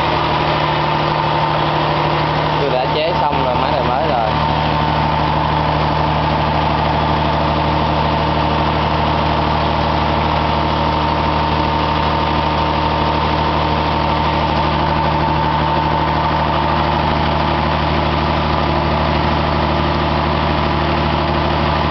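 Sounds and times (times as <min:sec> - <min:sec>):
engine idling with drone: 0:00.0 - 0:21.9
steady engine whine: 0:00.0 - 0:21.9.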